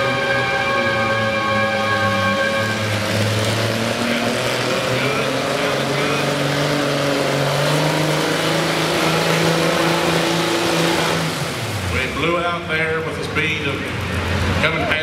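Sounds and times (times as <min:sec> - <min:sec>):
tractor engine running hard: 0:00.0 - 0:15.0.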